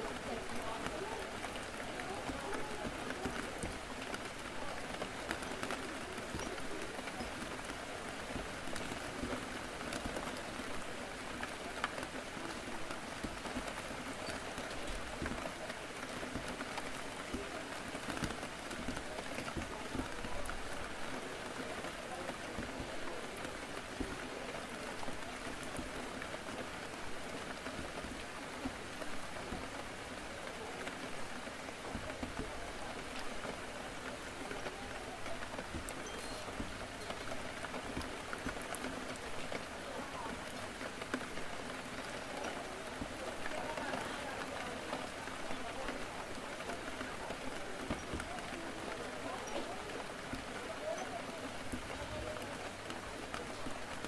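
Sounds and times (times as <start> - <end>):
murmur of background chatter: 0.0 - 54.0
rain on a window: 0.0 - 54.0
raindrop ticks: 0.0 - 54.0.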